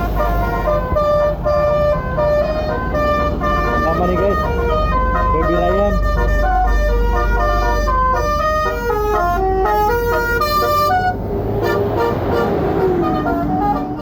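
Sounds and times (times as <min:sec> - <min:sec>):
musical bus horn melody: 0:00.0 - 0:14.0.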